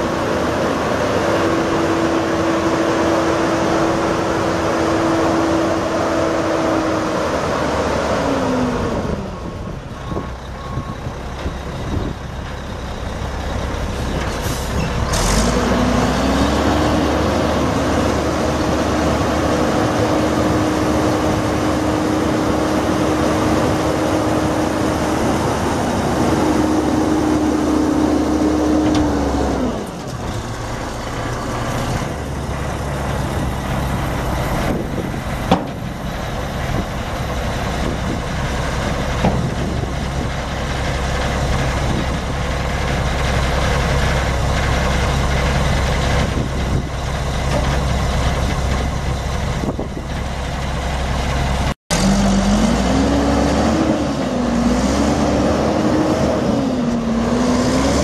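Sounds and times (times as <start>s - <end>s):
diesel truck engine whine: 0.0s - 58.0s.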